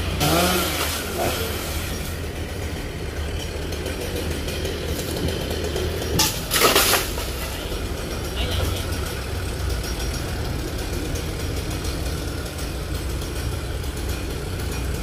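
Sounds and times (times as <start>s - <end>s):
chainsaw idling: 0.0s - 15.0s
chainsaw revving bursts: 0.0s - 15.0s.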